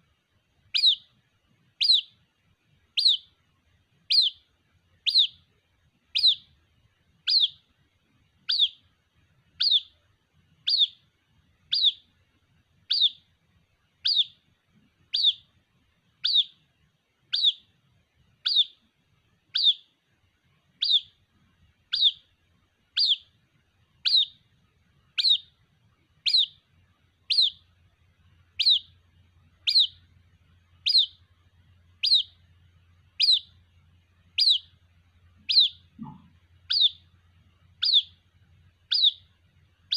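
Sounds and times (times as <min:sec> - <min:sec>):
bird chick peeping: 0:00.7 - 0:02.2, 0:02.9 - 0:03.4, 0:04.0 - 0:06.6, 0:07.2 - 0:07.7, 0:08.4 - 0:10.0, 0:10.6 - 0:12.2, 0:12.8 - 0:15.6, 0:16.2 - 0:16.7, 0:17.3 - 0:17.8, 0:18.4 - 0:19.9, 0:20.7 - 0:39.9.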